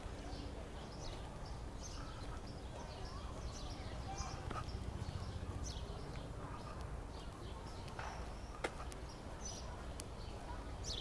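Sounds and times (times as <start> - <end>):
low city rumble: 0.0 - 11.0
small birds chirping: 0.0 - 11.0.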